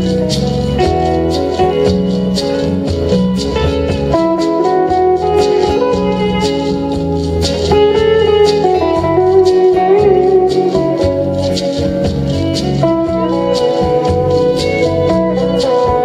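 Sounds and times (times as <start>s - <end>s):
bass guitar: 0.0s - 16.0s
drums: 0.0s - 16.0s
lead guitar bending notes: 0.0s - 16.0s.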